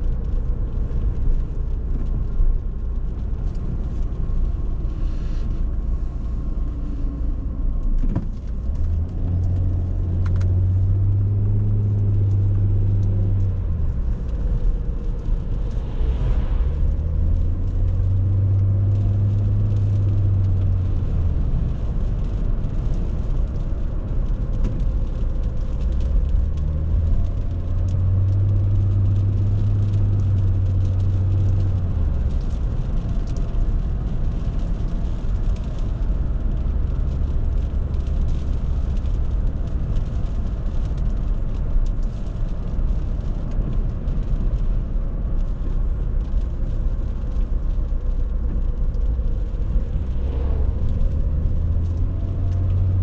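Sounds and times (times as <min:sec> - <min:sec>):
car engine hum: 0:00.0 - 0:53.0
tyre and road noise: 0:00.0 - 0:53.0.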